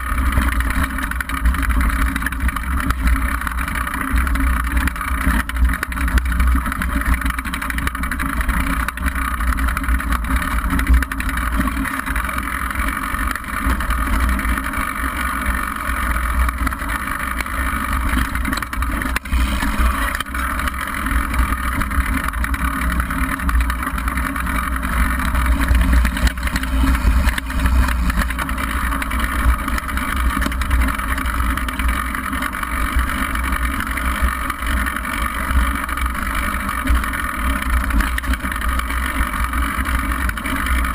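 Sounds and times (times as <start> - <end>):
mountain bike rumbling over rocks: 0.0 - 40.9.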